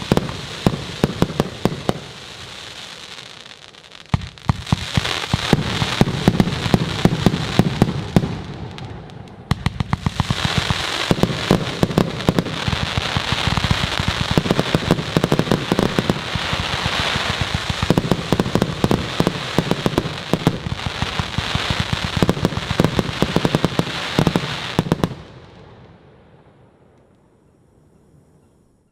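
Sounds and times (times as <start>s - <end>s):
fireworks crackling and banging: 0.0s - 25.6s.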